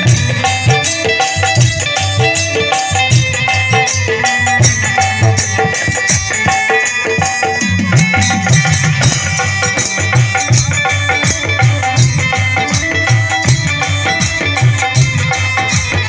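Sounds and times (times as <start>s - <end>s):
dholak drum beating: 0.0s - 16.0s
harmonium: 0.0s - 16.0s
jingling hand percussion: 0.0s - 16.0s
keyboard: 0.0s - 16.0s.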